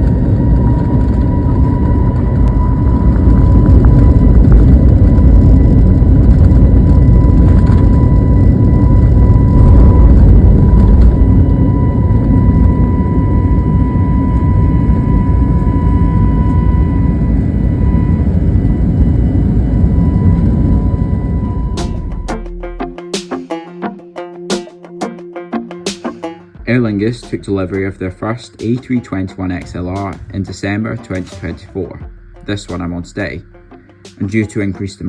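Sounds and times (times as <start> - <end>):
jet engine and airflow rumble: 0.0 - 35.0
steady whine: 0.0 - 35.0.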